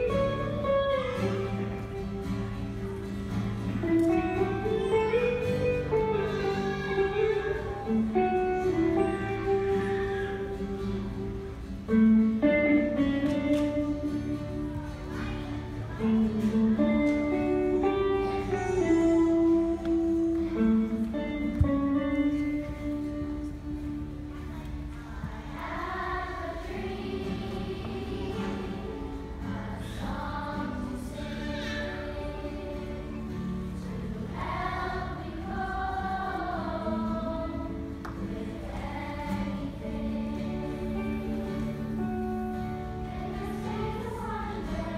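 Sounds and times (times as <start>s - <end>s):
children's choir singing: 0.0s - 44.9s
slow guitar melody: 0.0s - 44.9s.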